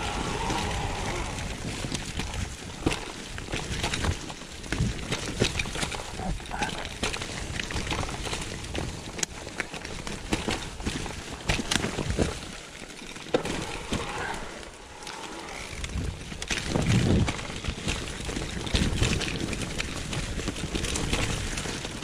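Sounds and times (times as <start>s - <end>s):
bike rattling over bumps: 0.0s - 22.0s
bike tyres rolling over leaves: 0.0s - 22.0s.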